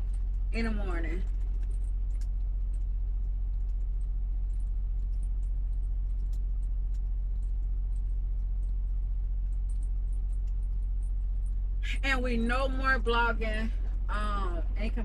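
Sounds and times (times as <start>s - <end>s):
faint ticks and rattles: 0.0s - 15.0s.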